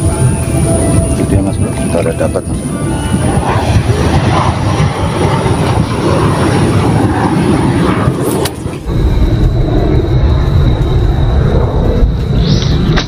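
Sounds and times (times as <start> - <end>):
loud low rumbling: 0.0 - 13.0.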